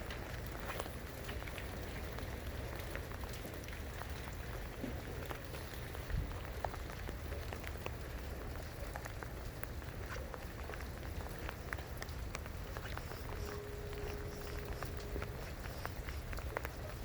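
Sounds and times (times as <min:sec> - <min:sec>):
low rain rumble: 0:00.0 - 0:17.0
raindrops ticking: 0:00.0 - 0:17.0.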